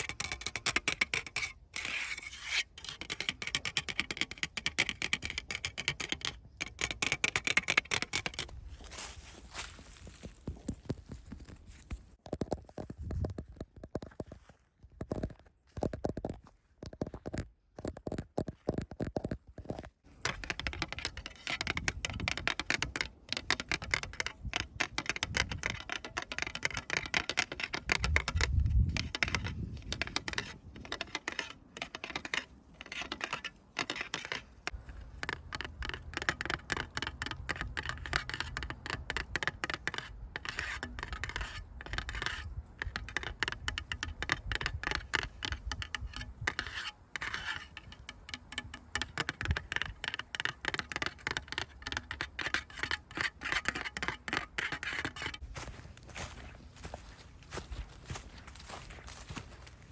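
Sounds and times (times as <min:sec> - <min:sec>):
scratching on a surface: 0:00.0 - 0:59.9.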